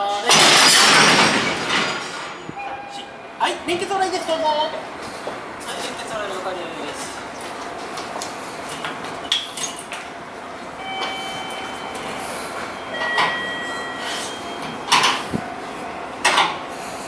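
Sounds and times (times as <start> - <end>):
railway coupling clanking: 0.0 - 6.1, 8.1 - 17.0
rail yard noise: 0.0 - 17.0.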